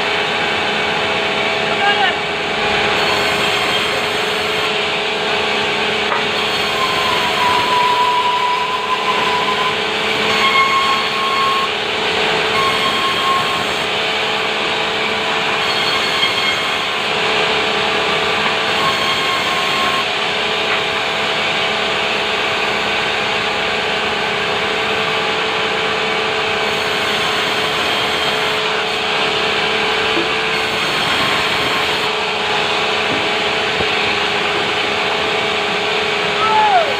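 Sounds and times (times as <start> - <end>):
saw cutting timber: 0.0 - 36.4.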